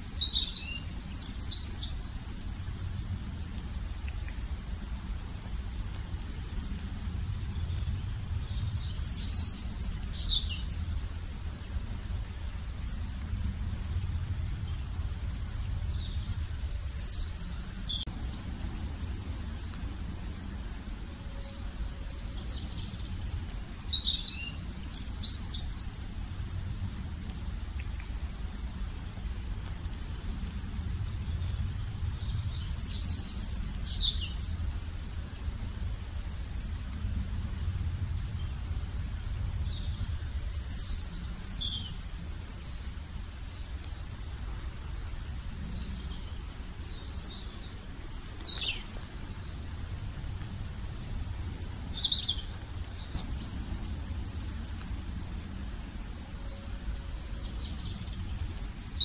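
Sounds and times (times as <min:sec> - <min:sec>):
songbirds singing: 0:00.0 - 0:59.0
low rumble: 0:02.2 - 0:42.5, 0:43.3 - 0:59.0.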